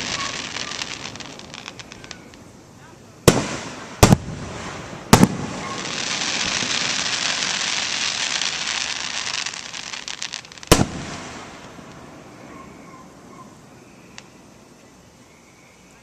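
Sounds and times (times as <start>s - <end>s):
fireworks crackling: 0.0s - 14.8s.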